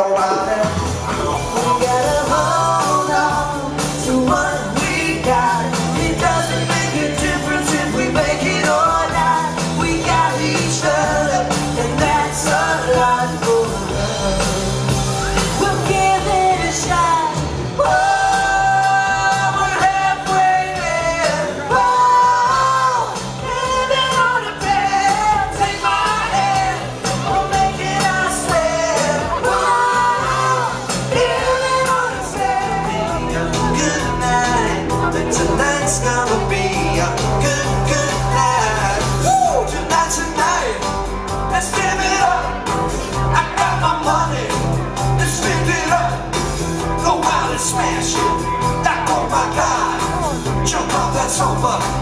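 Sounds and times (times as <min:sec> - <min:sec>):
woman singing lead: 0:00.0 - 0:40.9, 0:47.0 - 0:51.9
live rock band playing: 0:00.0 - 0:52.0.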